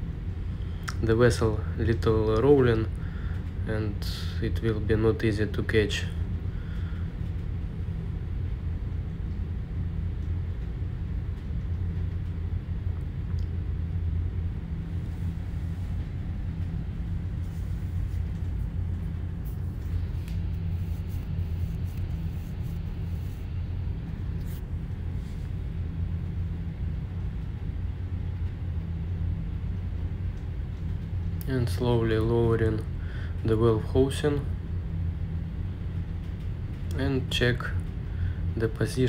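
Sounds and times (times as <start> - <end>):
engine-room machinery hum: 0.0 - 39.0.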